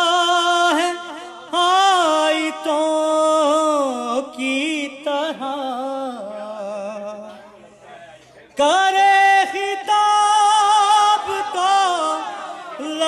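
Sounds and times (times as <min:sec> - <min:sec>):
man chanting unaccompanied: 0:00.0 - 0:07.7, 0:08.4 - 0:13.0.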